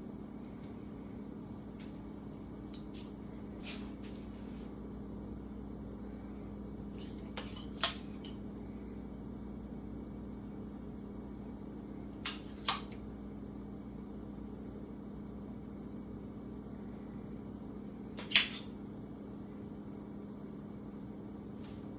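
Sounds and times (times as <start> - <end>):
kitchen fan hum: 0.0 - 21.9.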